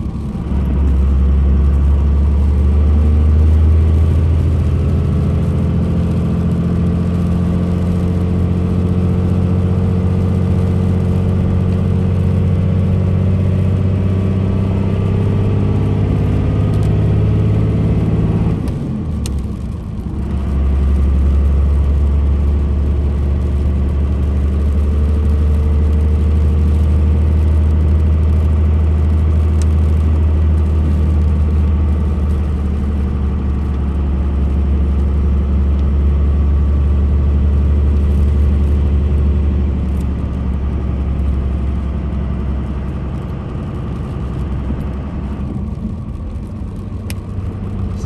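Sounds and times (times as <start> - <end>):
diesel engine droning in cab: 0.0 - 48.0.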